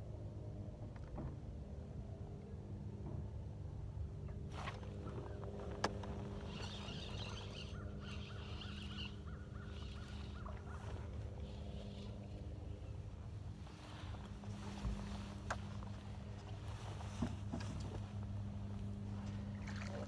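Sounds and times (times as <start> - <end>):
boat motor humming: 0.3 - 20.0.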